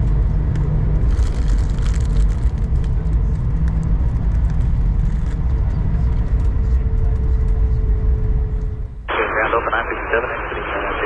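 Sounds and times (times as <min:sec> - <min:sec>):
jet cabin low rumble: 0:00.0 - 0:11.0.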